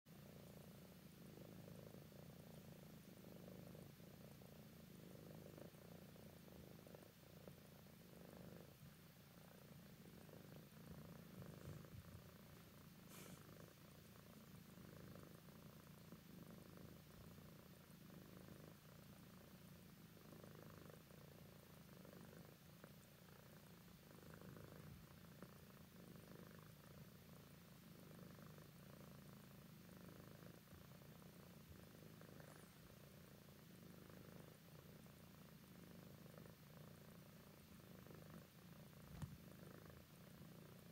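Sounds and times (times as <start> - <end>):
cat purring: 0.1 - 40.9.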